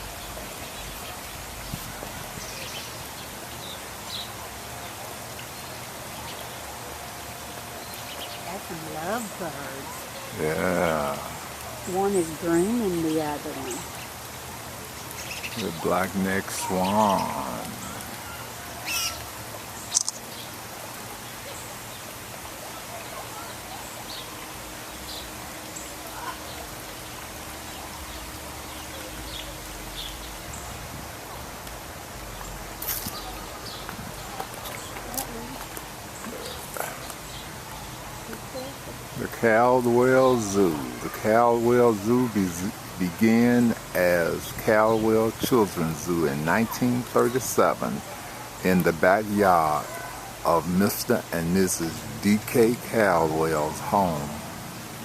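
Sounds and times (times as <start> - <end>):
lovebirds chirping: 0.0 - 6.8, 7.6 - 22.2, 22.9 - 54.5
steady background hiss: 0.0 - 55.0.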